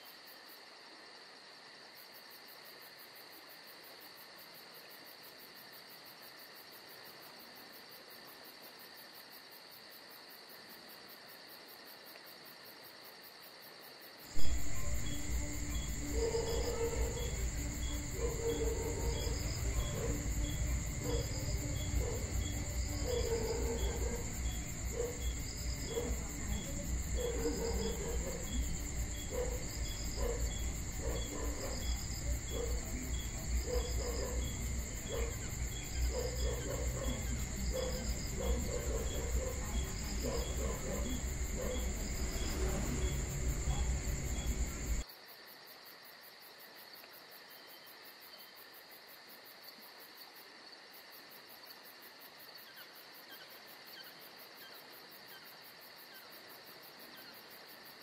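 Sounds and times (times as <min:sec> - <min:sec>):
crickets trilling and chirping: 0:00.0 - 0:58.0.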